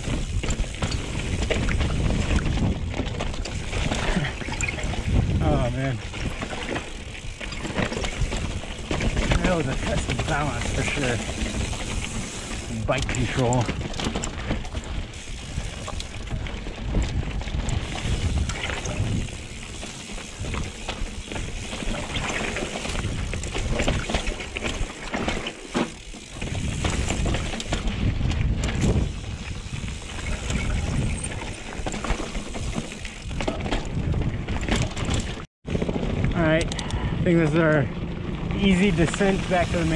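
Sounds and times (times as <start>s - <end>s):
wind buffeting microphone: 0.0s - 24.9s, 25.9s - 39.9s
bike tyres crunching over rock: 0.0s - 36.6s, 37.6s - 39.9s
bike knocking and rattling: 0.0s - 39.9s.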